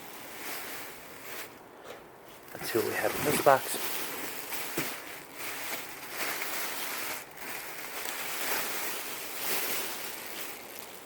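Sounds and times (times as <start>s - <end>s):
rustling of dresses: 0.0s - 11.0s.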